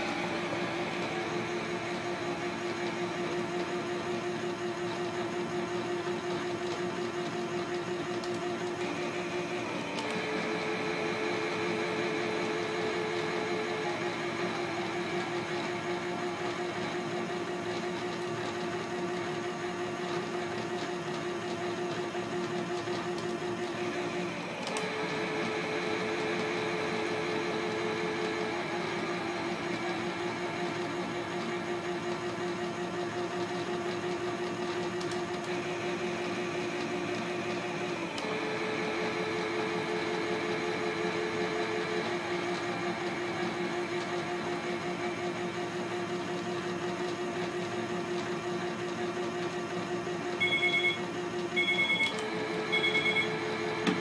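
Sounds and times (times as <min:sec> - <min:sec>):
toy washing machine motor humming: 0:00.0 - 0:54.0.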